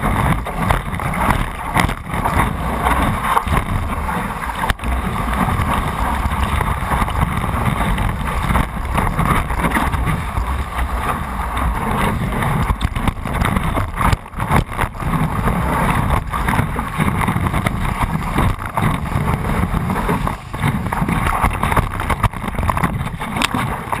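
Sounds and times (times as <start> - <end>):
water rushing and hissing: 0.0 - 24.0
wind buffeting microphone: 0.0 - 24.0.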